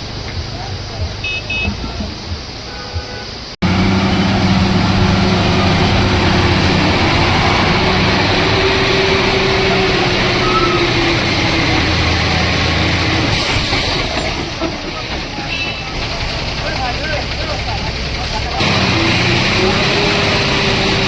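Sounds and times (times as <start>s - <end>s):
heavy truck engine running: 0.0s - 21.0s.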